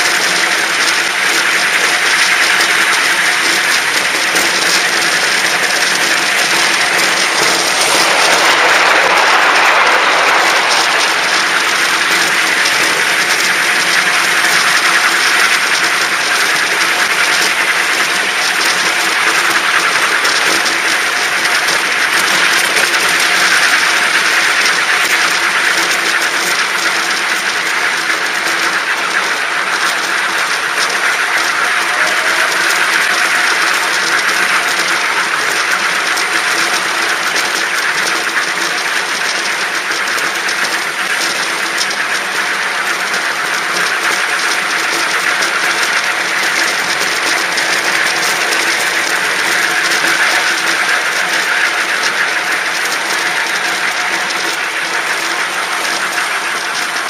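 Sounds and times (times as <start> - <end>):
small train running on track: 0.0 - 57.0.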